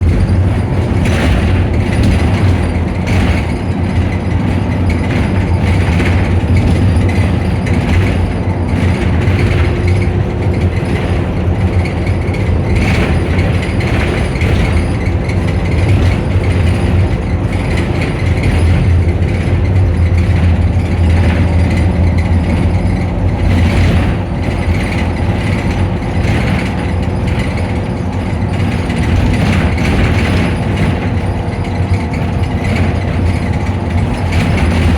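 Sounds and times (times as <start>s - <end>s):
bus engine droning: 0.0s - 34.9s
mechanical rattling: 0.0s - 34.9s.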